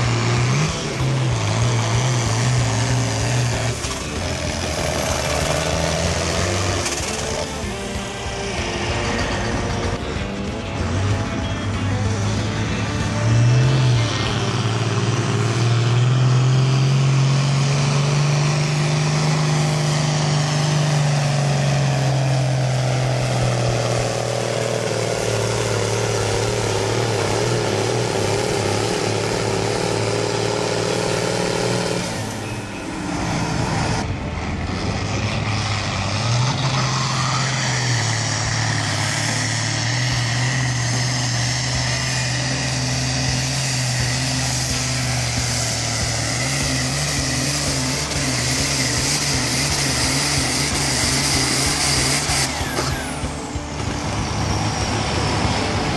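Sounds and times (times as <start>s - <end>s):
tractor engine under load: 0.0s - 55.9s.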